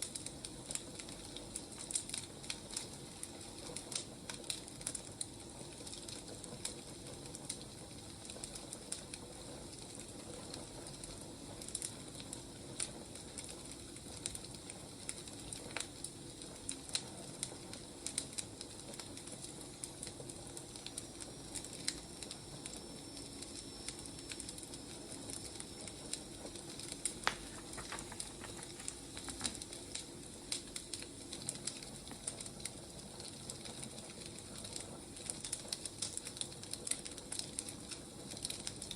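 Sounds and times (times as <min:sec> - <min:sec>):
fire hissing: 0:00.0 - 0:38.9
firewood crackling and popping: 0:00.0 - 0:38.9.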